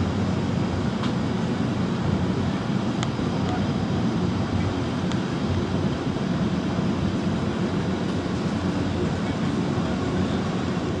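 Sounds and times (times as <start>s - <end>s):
electric train rumbling on rails: 0.0s - 11.0s.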